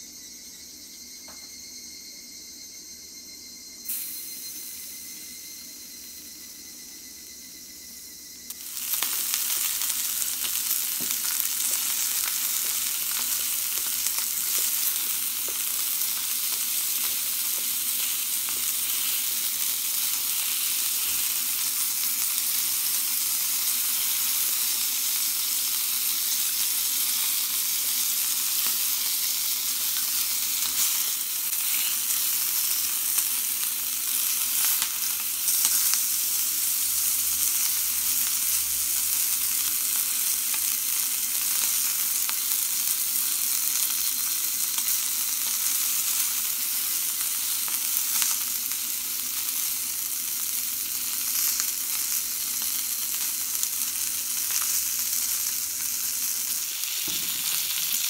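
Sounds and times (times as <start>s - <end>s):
food sizzling in a skillet: 3.7s - 58.0s.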